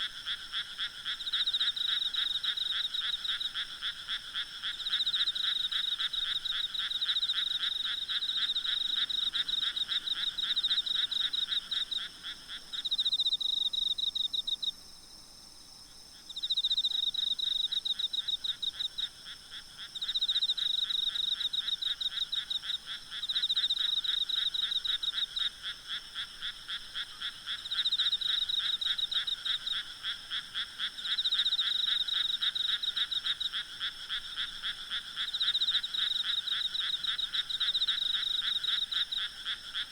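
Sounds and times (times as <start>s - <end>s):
frogs croaking: 0.0s - 15.0s, 15.9s - 39.9s
insects trilling: 0.2s - 15.2s, 15.9s - 39.9s.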